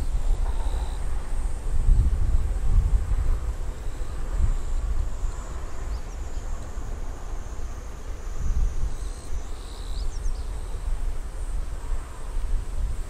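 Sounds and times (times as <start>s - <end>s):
high insect buzz: 0.0s - 13.0s
wind buffeting microphone: 0.0s - 13.0s.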